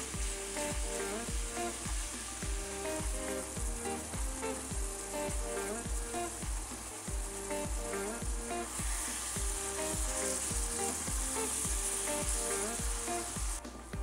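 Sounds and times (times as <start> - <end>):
background music with a steady beat: 0.0 - 14.0
meat and onions sizzling in a pan: 0.0 - 14.0.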